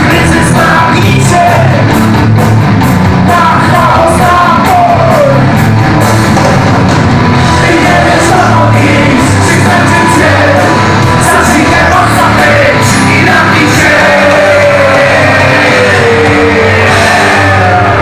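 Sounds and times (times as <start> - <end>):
man singing: 0.0 - 1.9, 3.2 - 5.5, 7.5 - 18.0
bass guitar: 0.0 - 18.0
drums: 0.0 - 18.0
electric guitars: 0.0 - 18.0.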